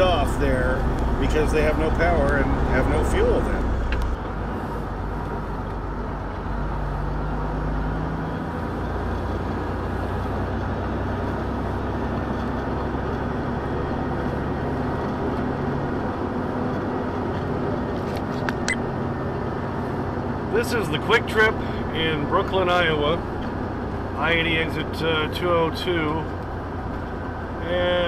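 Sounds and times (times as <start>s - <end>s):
truck diesel engine drone: 0.0s - 28.0s.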